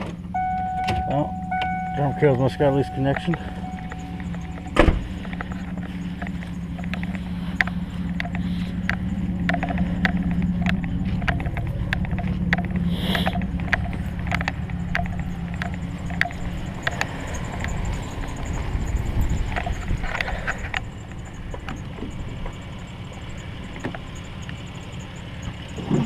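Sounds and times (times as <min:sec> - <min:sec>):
vehicle engine idling: 0:00.0 - 0:26.0
light clicks and ticks: 0:02.3 - 0:26.0.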